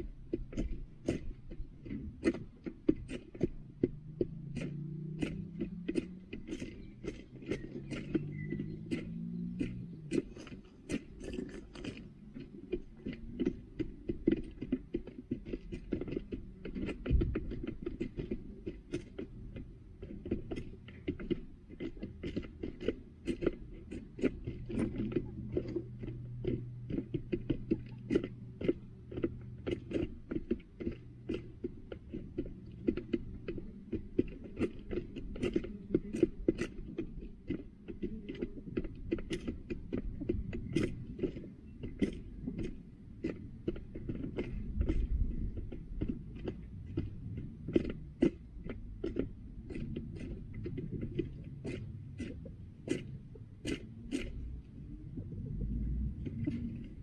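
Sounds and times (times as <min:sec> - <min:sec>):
hens pecking on plastic tray: 0:00.0 - 0:57.0.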